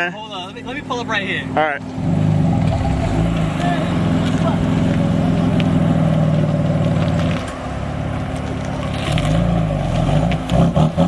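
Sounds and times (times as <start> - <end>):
car engine running: 0.2 - 11.0.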